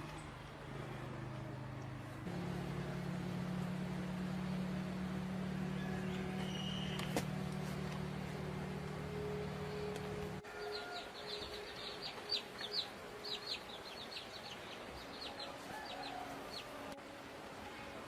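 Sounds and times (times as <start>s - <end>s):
birds chirping: 0.0s - 16.8s
low steady hum: 0.0s - 18.0s.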